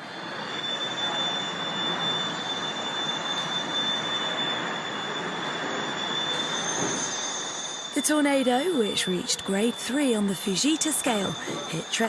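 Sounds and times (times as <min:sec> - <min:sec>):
thin high whine: 0:00.0 - 0:12.0.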